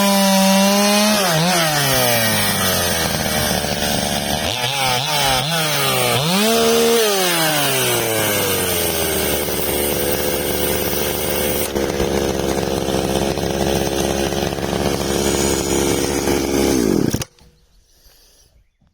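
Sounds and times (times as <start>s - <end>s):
chainsaw engine revving and idling: 0.0s - 17.4s.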